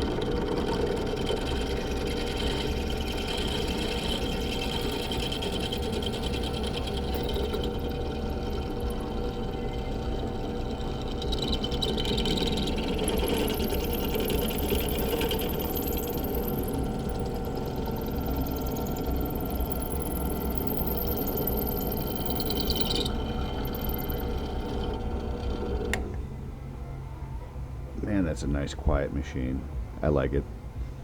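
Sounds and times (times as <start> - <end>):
drill bit squealing through steel: 0.0 - 26.0
drill press motor humming: 0.0 - 26.6.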